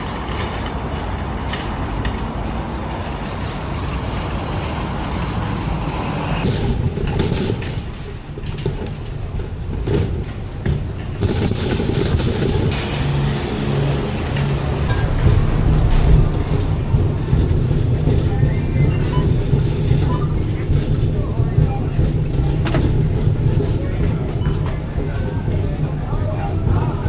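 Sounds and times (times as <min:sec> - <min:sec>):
car road noise: 0:00.0 - 0:27.0.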